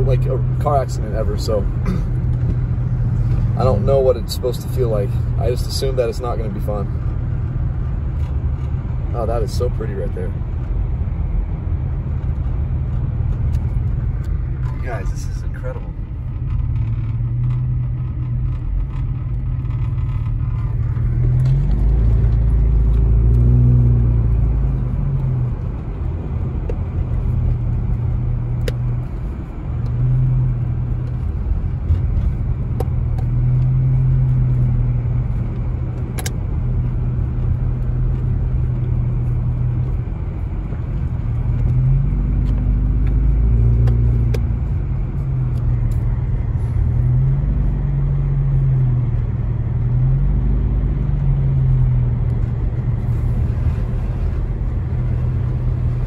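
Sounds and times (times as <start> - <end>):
car engine and tyre noise: 0.0 - 56.0.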